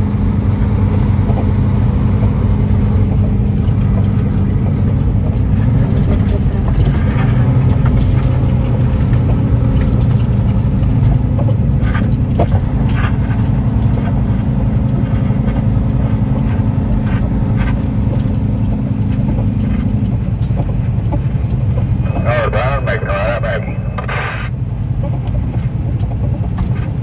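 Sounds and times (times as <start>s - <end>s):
truck engine droning: 0.0s - 27.0s.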